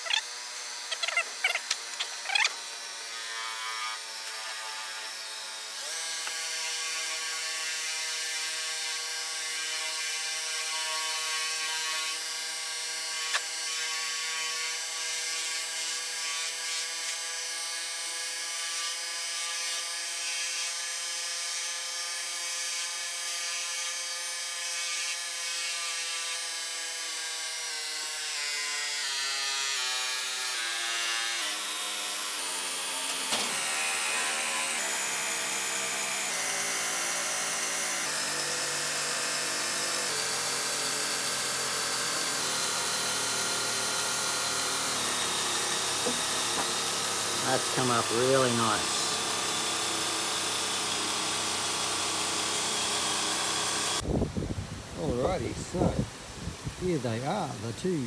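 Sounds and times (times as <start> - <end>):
belt grinder motor whine: 0.0 - 25.4, 26.0 - 54.0.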